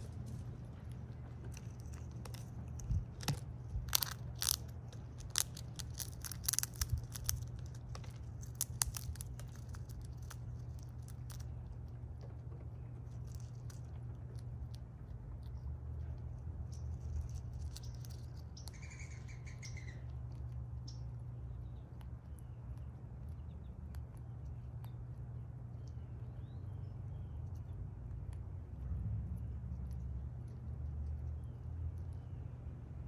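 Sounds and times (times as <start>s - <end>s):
squirrel cracking shells and chewing: 0.0s - 33.0s
steady low hum: 0.0s - 33.0s.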